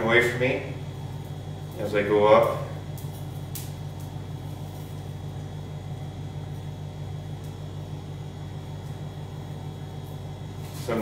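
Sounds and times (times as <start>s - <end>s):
welder engine humming: 0.0s - 11.0s.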